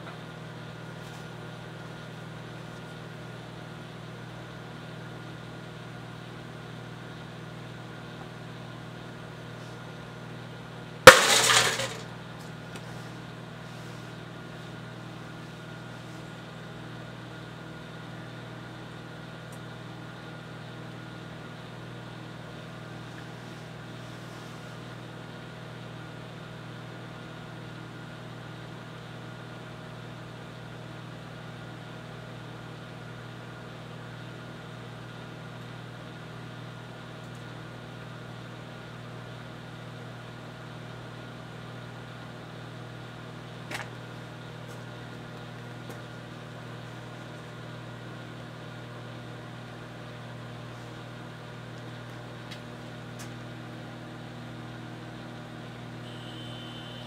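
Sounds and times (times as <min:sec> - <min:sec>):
microwave oven humming: 0:00.0 - 0:57.0.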